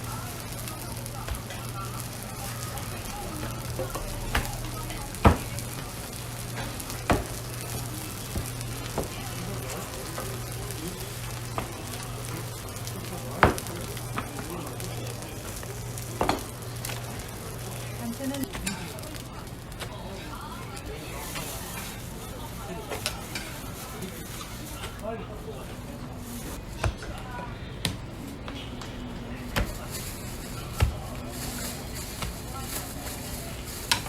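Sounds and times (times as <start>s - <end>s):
pancakes sizzling on griddle: 0.0s - 27.5s, 28.3s - 34.0s.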